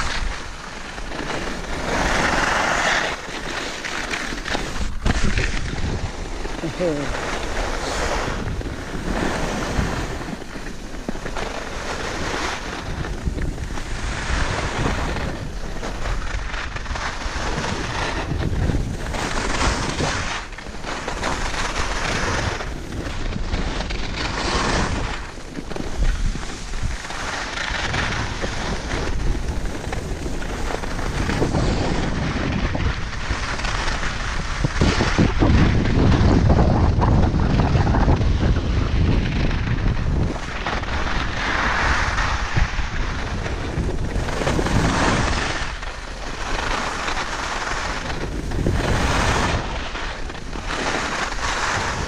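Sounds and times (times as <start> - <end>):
skis scraping over snow: 0.0 - 52.0
wind on microphone: 0.0 - 52.0.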